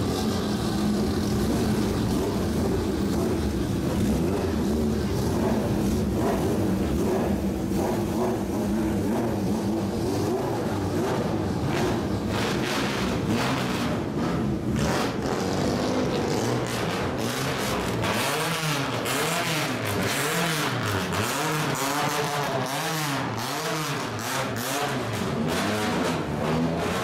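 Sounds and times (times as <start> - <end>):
engine revving in throttle blips: 0.0 - 27.0.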